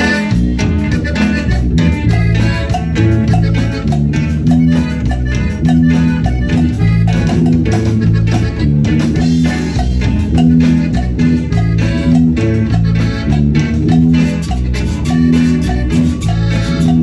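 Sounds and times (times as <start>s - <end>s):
band music with accordion: 0.0s - 17.0s
drum beat: 0.0s - 17.0s.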